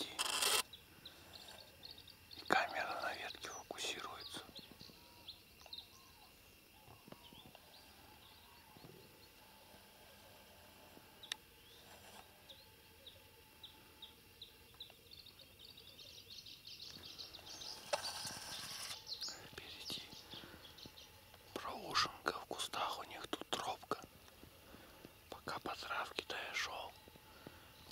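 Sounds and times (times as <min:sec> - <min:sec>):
faint bird chirps: 0:00.0 - 0:27.9.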